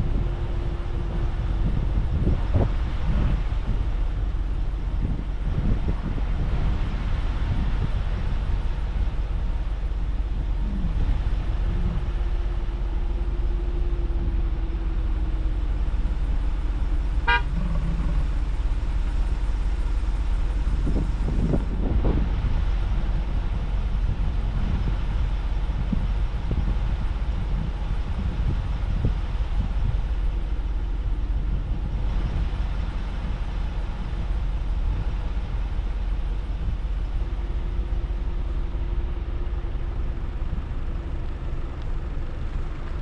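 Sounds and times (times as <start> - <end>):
car driving rumble: 0.0 - 43.0.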